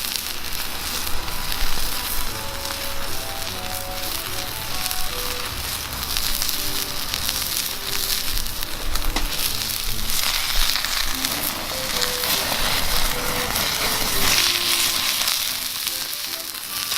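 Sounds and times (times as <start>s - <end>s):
fire pops and crackles: 0.0s - 16.9s
meat sizzling in a frying pan: 0.0s - 16.9s.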